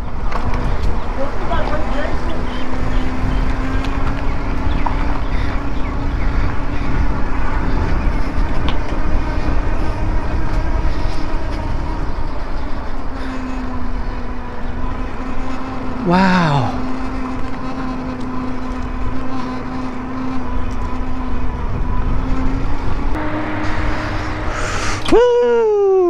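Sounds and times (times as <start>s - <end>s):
wind and tyre noise: 0.0s - 16.1s, 16.8s - 26.0s
low hum: 0.0s - 26.0s.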